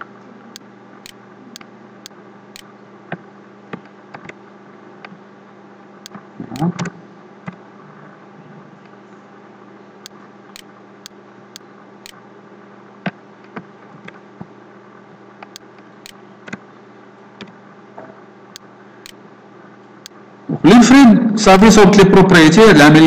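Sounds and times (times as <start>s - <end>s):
electrical hum and hiss: 0.0s - 23.0s.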